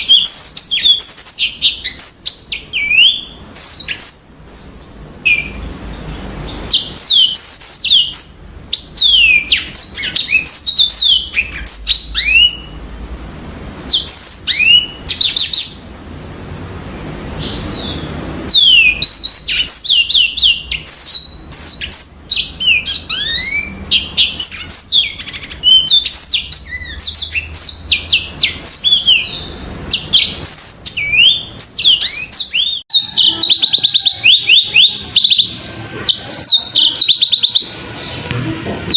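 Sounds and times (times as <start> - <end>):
canary singing: 0.0 - 13.0, 13.6 - 38.9.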